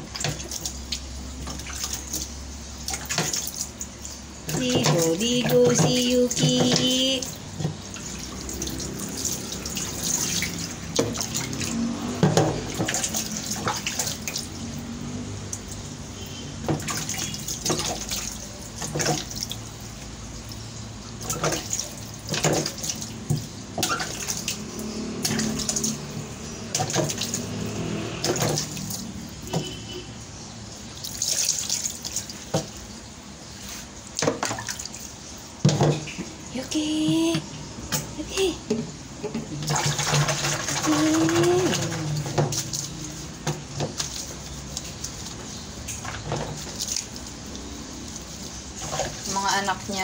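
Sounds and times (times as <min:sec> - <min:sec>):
water splashing from dipper: 0:00.0 - 0:50.0.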